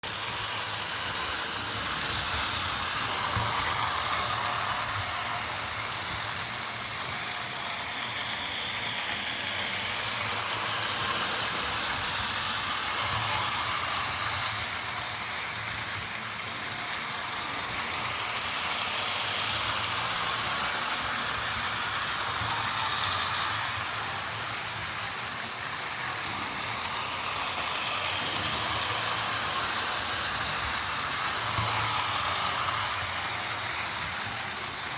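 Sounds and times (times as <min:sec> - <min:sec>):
toy train motor whir: 0:00.0 - 0:34.9.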